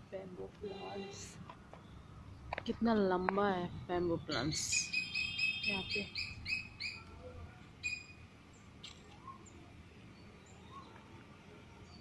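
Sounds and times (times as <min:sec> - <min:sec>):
birds chirping: 0:00.0 - 0:12.0
faint background noise: 0:00.0 - 0:12.0.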